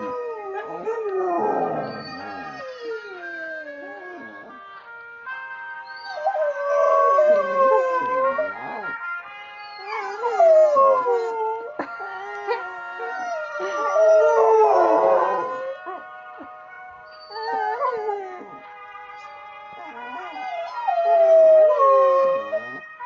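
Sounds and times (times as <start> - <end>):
dogs howling: 0.0 - 4.6, 6.0 - 8.9, 9.7 - 18.6, 19.8 - 22.9
television theme tune: 0.0 - 23.0.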